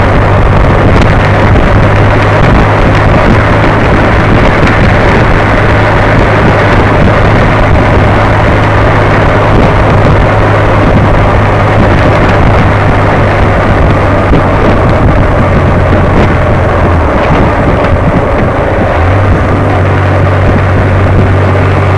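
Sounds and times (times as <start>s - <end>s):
vehicle engine hum: 0.0s - 21.9s
wind rush on microphone: 0.0s - 21.9s.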